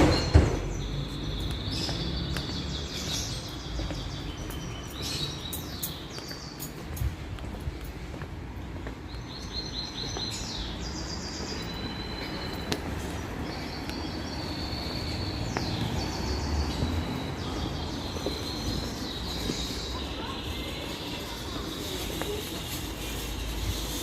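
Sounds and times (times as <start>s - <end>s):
small birds chirping: 0.0s - 7.8s, 8.6s - 24.0s.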